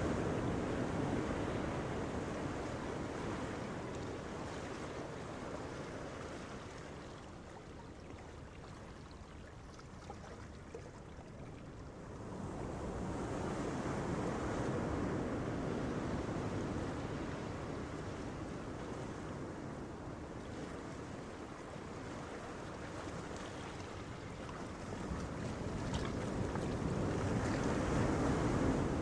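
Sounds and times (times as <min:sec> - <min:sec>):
surf washing on beach: 0:00.0 - 0:08.8, 0:12.0 - 0:29.0.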